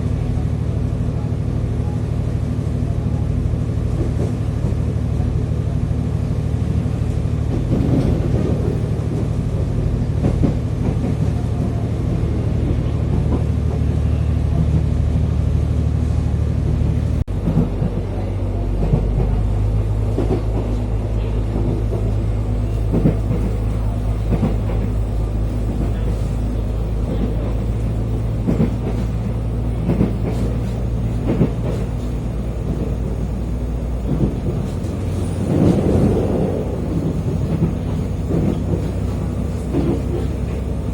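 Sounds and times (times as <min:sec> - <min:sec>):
train rumbling and humming: 0:00.0 - 0:40.9.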